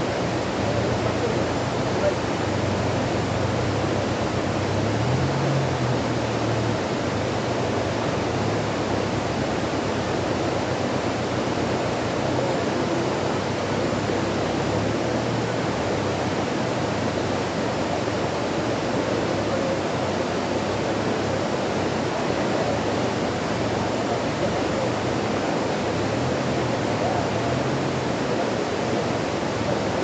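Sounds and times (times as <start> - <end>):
stream water rushing: 0.0 - 30.0.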